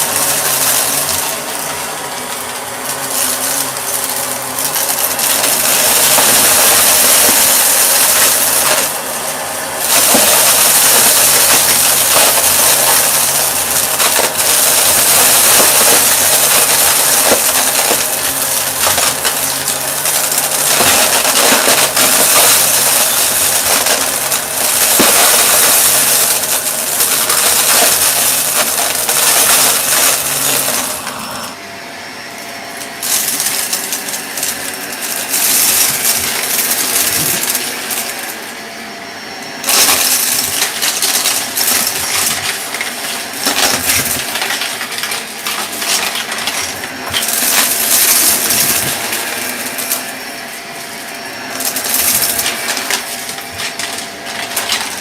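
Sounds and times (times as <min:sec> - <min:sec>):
debris rattling in vacuum: 0:00.0 - 0:55.0
vacuum cleaner running: 0:00.0 - 0:55.0.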